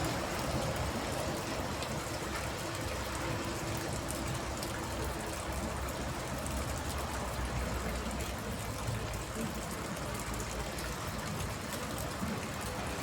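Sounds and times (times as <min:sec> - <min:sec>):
rain on a water tank: 0:00.0 - 0:13.0.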